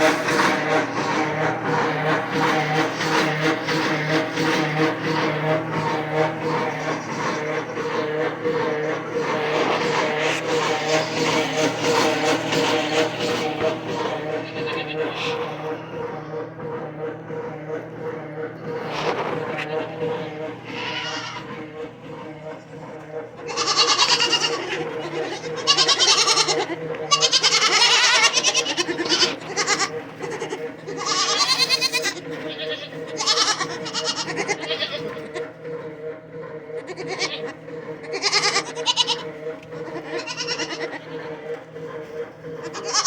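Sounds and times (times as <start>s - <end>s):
goats bleating: 0.0s - 16.5s, 18.7s - 35.7s, 36.6s - 43.0s
steady hum: 0.0s - 43.0s.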